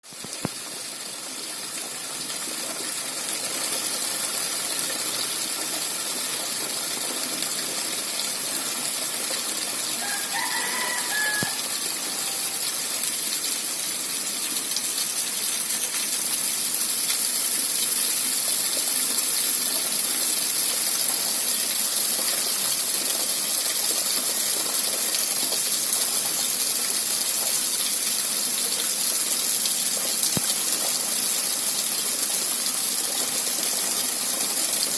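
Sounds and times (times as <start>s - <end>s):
steady rain hiss: 3.2s - 34.9s.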